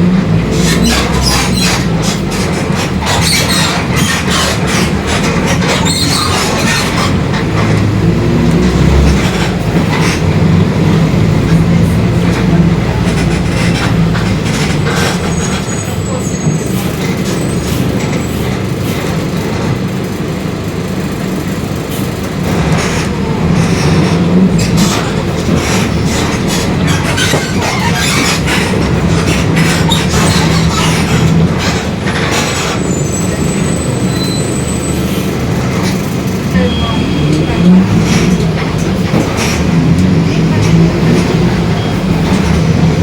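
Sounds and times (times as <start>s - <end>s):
bus body rattles and knocks: 0.0s - 43.0s
bus engine drone: 0.0s - 43.0s.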